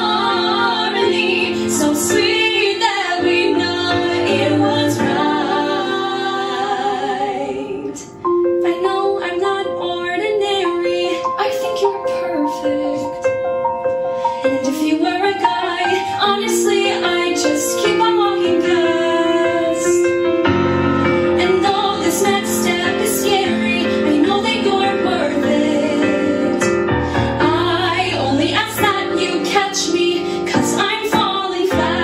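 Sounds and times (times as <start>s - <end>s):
woman singing: 0.0s - 13.3s, 14.4s - 20.2s, 21.3s - 26.8s, 27.4s - 32.0s
instrumental backing music: 0.0s - 32.0s.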